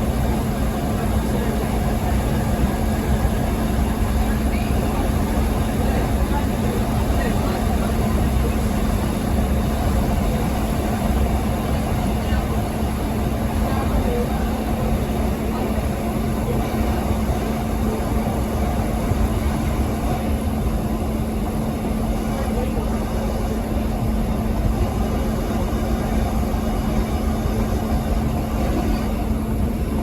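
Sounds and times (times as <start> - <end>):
steady hum: 0.0 - 30.0
vehicle running rumble: 0.0 - 30.0.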